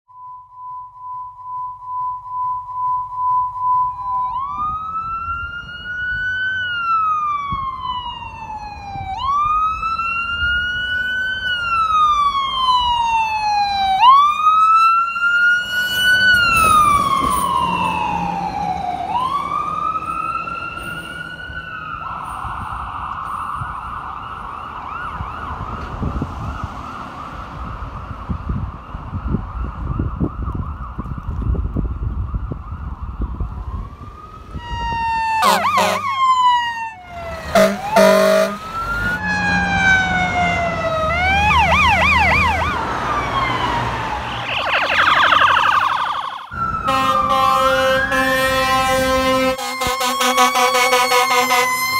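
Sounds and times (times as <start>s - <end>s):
fire engine siren wailing: 0.2s - 51.9s
fire engine rumble: 1.2s - 51.9s.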